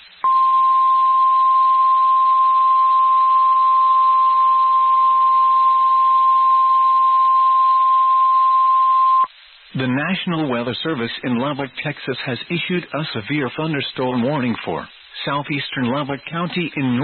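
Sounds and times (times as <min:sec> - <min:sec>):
faint radio hiss: 0:00.0 - 0:17.0.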